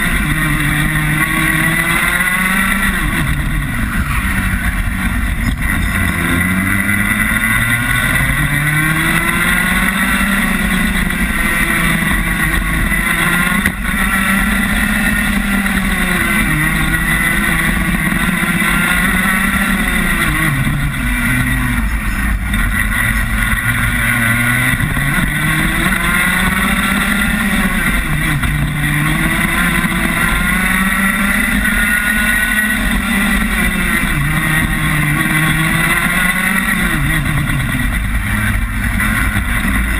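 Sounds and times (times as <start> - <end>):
kart two-stroke engine racing: 0.0 - 39.9.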